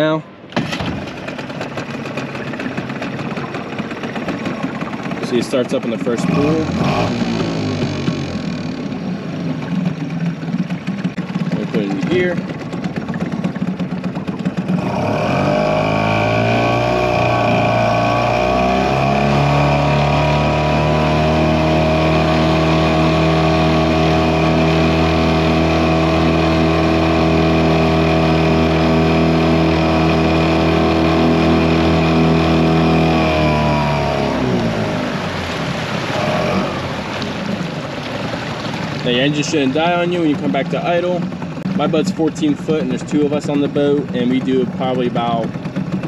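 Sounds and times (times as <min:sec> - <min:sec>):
outboard motor running: 0:00.0 - 0:46.0.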